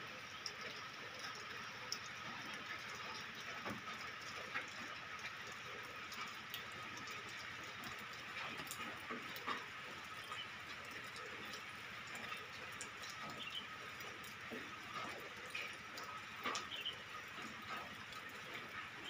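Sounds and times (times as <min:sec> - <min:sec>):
drips and small taps: 0:00.0 - 0:19.0
steady rain falling: 0:00.0 - 0:19.0.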